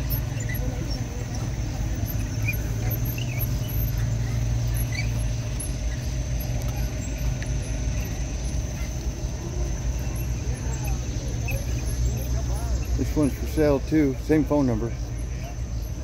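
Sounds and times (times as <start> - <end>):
low machine drone: 0.0 - 16.0.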